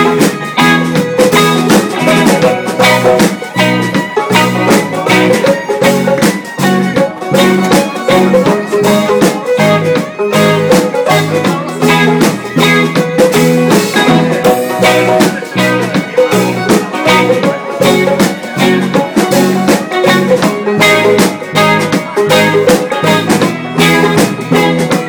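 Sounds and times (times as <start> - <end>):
bass guitar: 0.0 - 25.0
drum kit beat: 0.0 - 25.0
electric guitar: 0.0 - 25.0
violin: 0.0 - 25.0.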